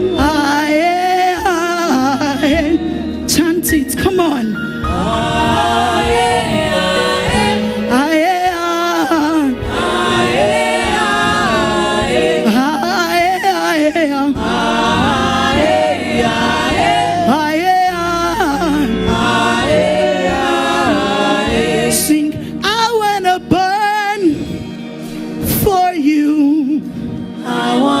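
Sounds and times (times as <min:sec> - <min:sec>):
choir singing gospel: 0:00.0 - 0:28.0
musical accompaniment: 0:00.0 - 0:28.0.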